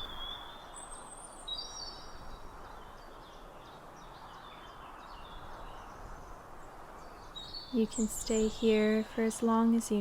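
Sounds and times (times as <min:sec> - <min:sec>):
birds singing: 0:00.0 - 0:10.0
soft outdoor hiss: 0:00.0 - 0:10.0.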